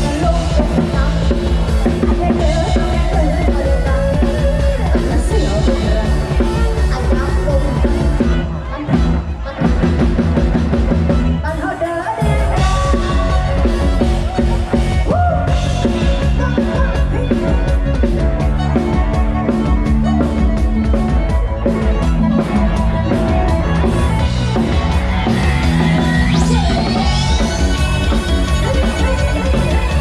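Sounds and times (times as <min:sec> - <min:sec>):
drum kit fast beat: 0:00.0 - 0:11.4, 0:12.2 - 0:30.0
live band music: 0:00.0 - 0:30.0.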